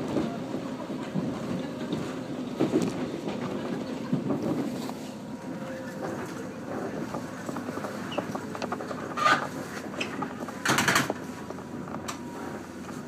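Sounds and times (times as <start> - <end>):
rail clicks: 0.0 - 13.0
train cabin rumble: 0.0 - 13.0.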